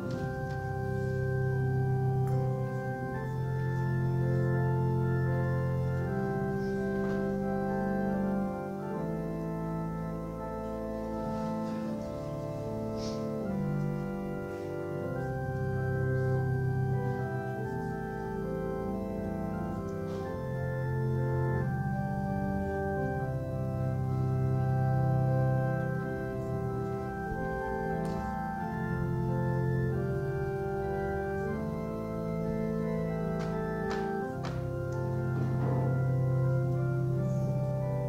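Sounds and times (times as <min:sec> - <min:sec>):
church organ chords: 0:00.0 - 0:38.0.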